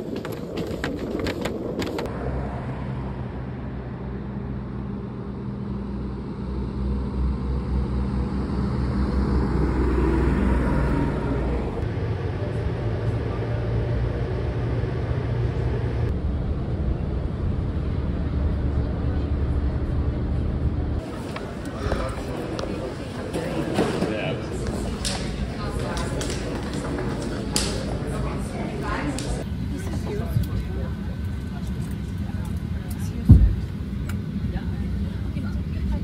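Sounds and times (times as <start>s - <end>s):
traffic noise: 0.0s - 36.0s
vehicle engine humming: 0.0s - 36.0s.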